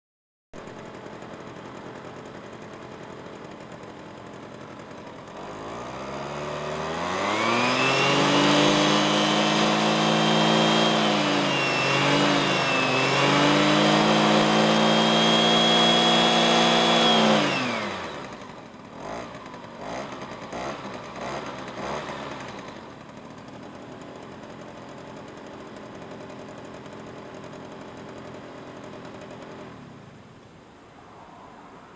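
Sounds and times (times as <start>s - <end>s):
scooter engine idling and revving: 0.6s - 30.8s.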